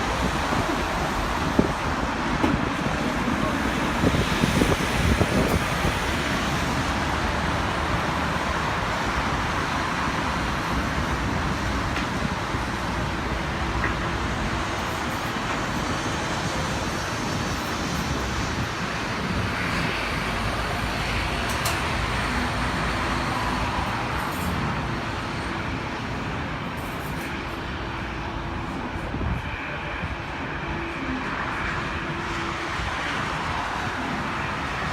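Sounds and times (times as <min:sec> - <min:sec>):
distant engines roaring: 0:00.0 - 0:34.9.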